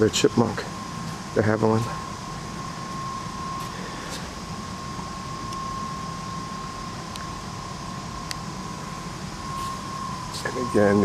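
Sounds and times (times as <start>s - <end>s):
fan humming and hissing: 0.0s - 11.0s
thin constant whine: 0.0s - 11.0s.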